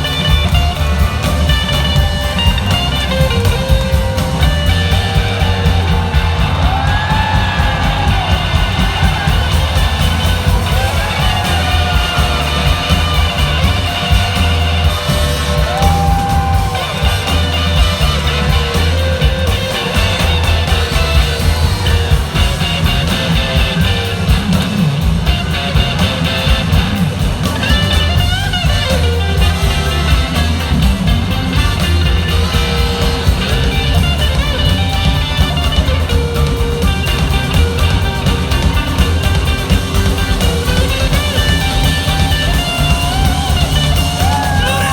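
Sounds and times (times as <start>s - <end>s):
live blues-rock band playing: 0.0s - 44.9s
sliding electric guitar lead: 0.0s - 44.9s.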